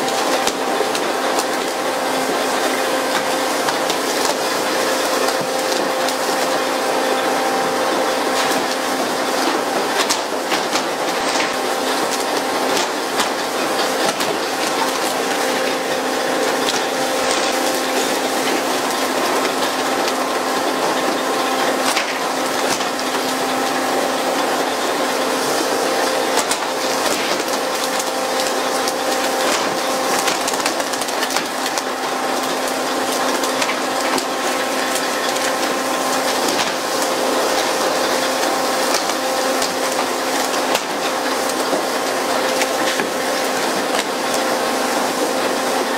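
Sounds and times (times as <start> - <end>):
machinery hum: 0.0 - 45.9.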